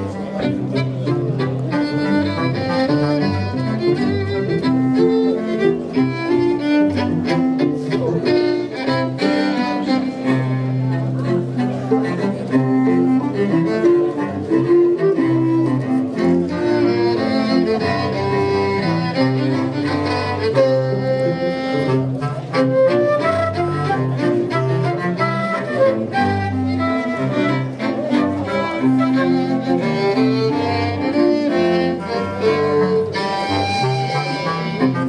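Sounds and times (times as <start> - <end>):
cello and violin playing: 0.0 - 35.0.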